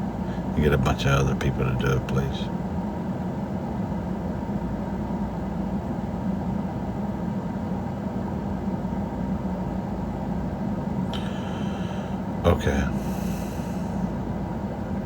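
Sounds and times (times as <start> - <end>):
vehicle running hum: 0.0 - 15.0.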